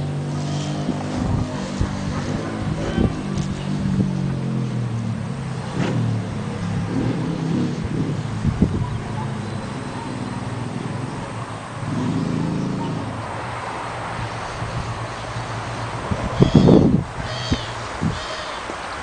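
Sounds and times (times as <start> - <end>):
motorcycle engine revving: 0.0 - 18.5.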